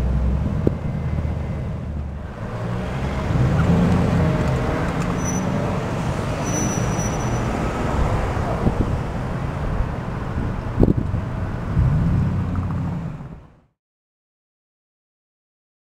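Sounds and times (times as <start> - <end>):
car exhaust driving off: 0.0 - 13.6
passing cars: 0.0 - 13.7.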